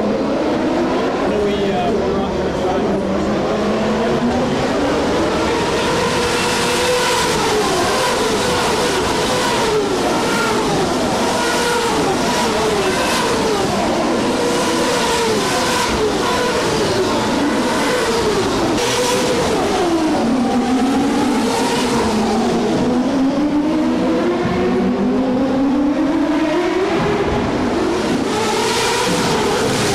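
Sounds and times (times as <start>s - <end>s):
race car engines racing past: 0.0s - 29.9s.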